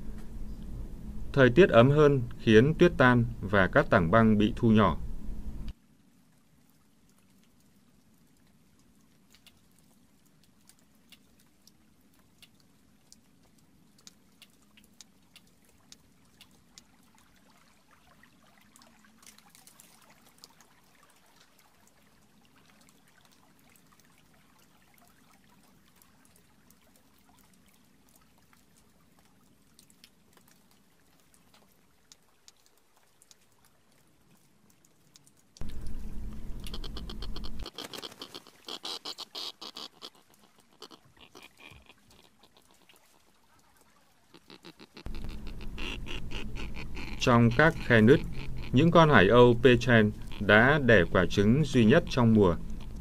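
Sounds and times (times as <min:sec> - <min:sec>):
small water drips: 0:05.7 - 0:53.0
water trickling through rocks: 0:05.7 - 0:53.0.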